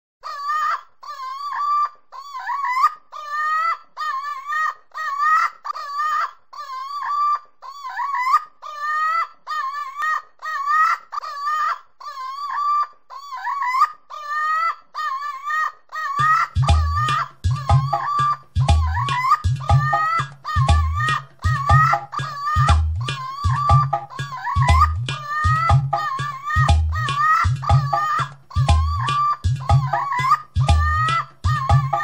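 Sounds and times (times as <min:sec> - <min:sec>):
rubber chicken toy squawking: 0:00.2 - 0:32.0.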